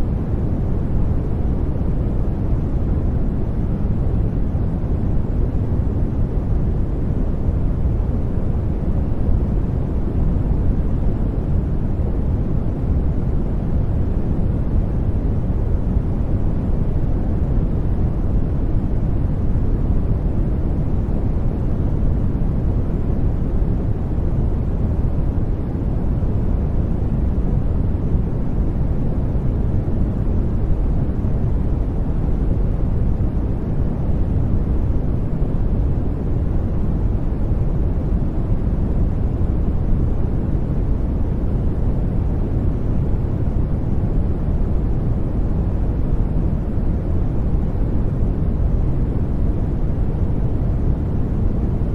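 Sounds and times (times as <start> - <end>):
brown noise rumbling hiss: 0.0 - 51.9.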